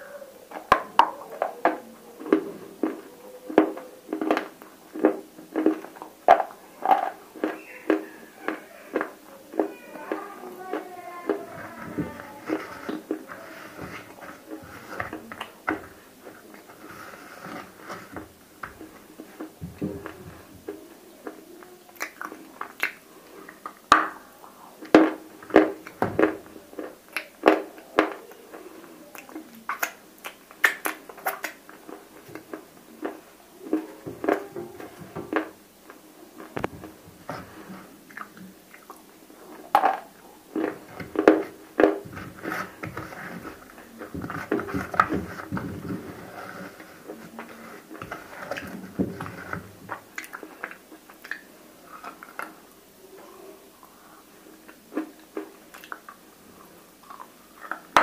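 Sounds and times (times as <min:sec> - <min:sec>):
quiet chewing: 0:00.0 - 0:58.0.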